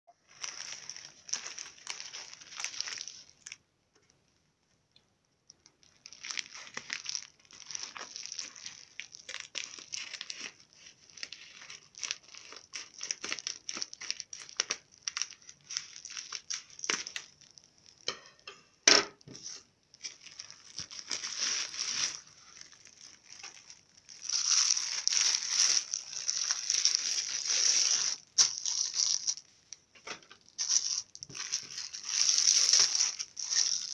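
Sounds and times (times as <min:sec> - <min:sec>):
bubble mailer crinkling: 0:00.1 - 0:03.6, 0:05.6 - 0:18.0, 0:19.4 - 0:33.9
plastic bag crinkling: 0:00.1 - 0:03.6, 0:05.6 - 0:18.1, 0:19.4 - 0:29.8, 0:30.4 - 0:33.9.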